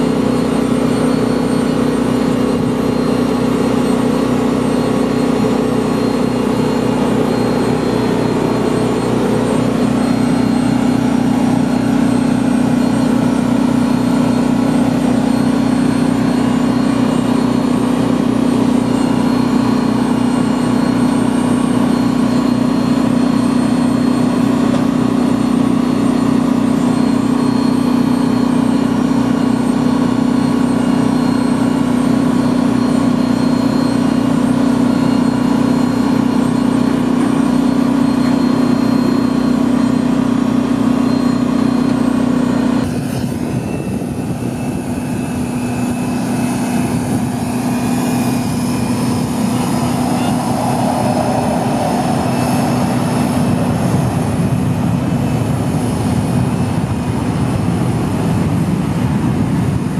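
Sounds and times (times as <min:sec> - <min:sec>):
engine droning with high whine: 0:00.0 - 0:59.9.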